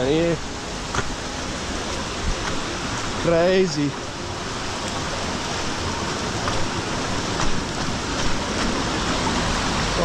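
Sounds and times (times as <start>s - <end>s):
water rushing and falling: 0.0s - 10.0s.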